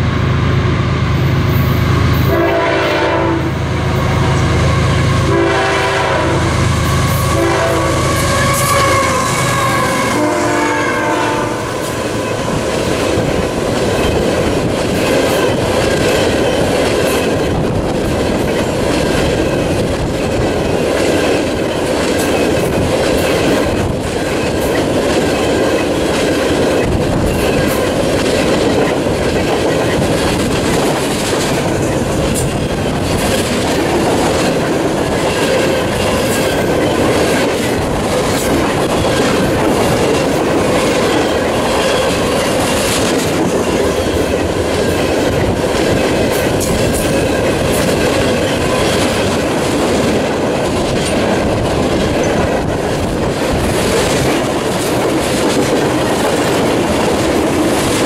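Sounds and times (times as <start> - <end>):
train wheels clacking over rail joints: 6.8 - 58.0.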